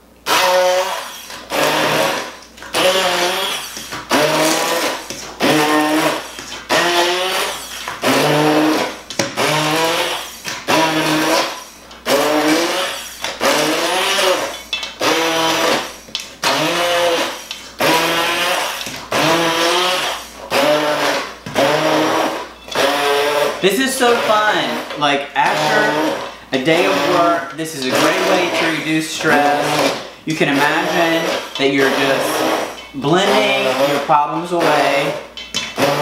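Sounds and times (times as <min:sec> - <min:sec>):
immersion blender chopping in bursts: 0:00.2 - 0:36.0.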